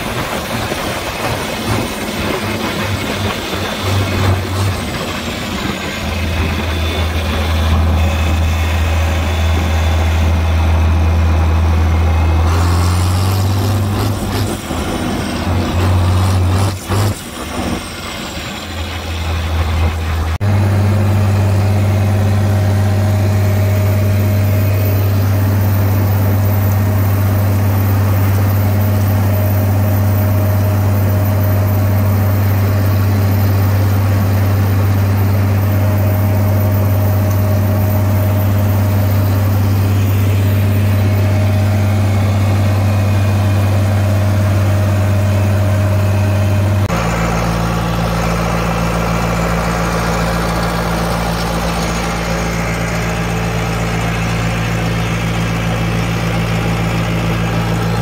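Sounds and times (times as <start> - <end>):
rotary cutter cutting grass: 0.0 - 11.0, 11.8 - 58.0
tractor engine running: 0.0 - 58.0.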